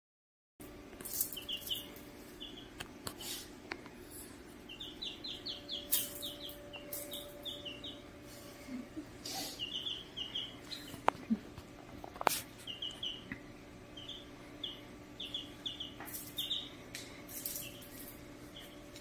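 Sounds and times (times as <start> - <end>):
chicks peeping: 1.0 - 19.0.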